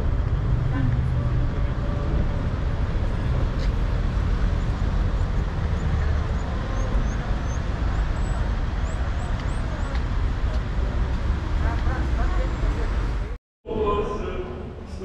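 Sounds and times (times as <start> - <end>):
city low rumble: 0.0 - 15.0.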